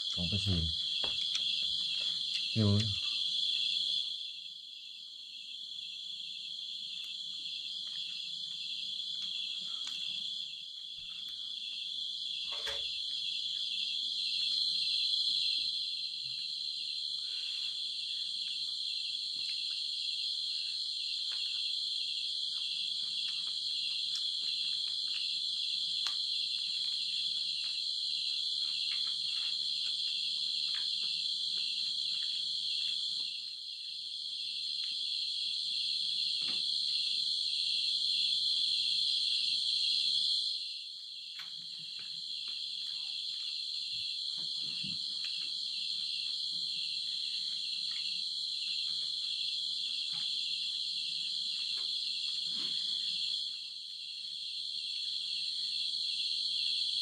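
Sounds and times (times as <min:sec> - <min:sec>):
night insects chirring: 0:00.0 - 0:57.0.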